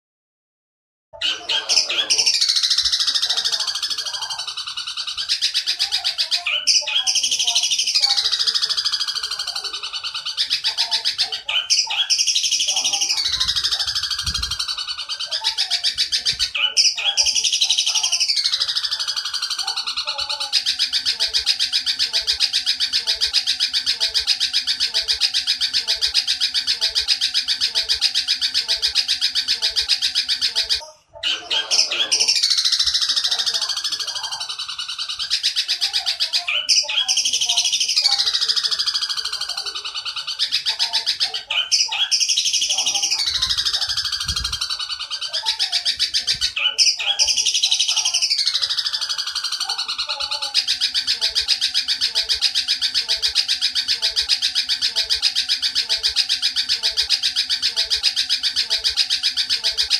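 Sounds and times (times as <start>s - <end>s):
busy bird chirping: 1.2s - 59.9s
falling wailing bird calls: 1.2s - 59.9s
sparrow rapid chatter: 1.2s - 59.9s.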